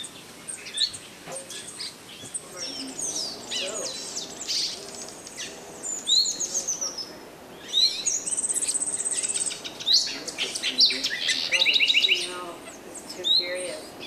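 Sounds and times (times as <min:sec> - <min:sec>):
birds chirping: 0:00.0 - 0:14.0
fast high bird trill: 0:01.4 - 0:13.9.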